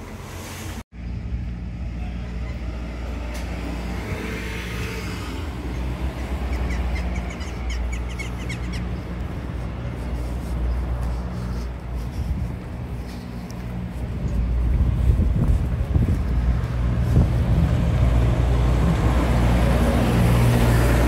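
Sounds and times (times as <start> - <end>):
car passing: 0.0 - 21.0
low traffic rumble: 0.0 - 21.0.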